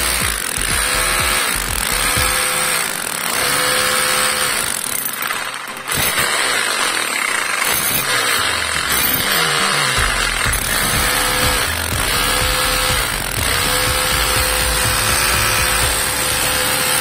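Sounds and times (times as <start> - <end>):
rotary hammer motor running: 0.0 - 17.0.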